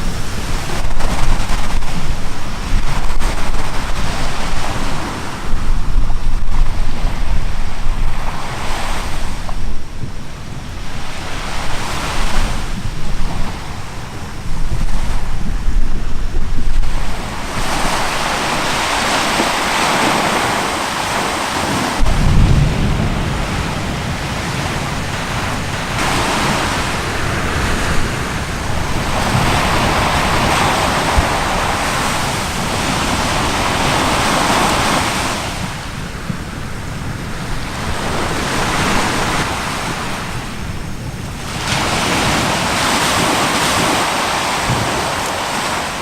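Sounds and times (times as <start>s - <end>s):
sea waves washing: 0.0s - 46.0s
wind buffeting microphone: 0.0s - 46.0s.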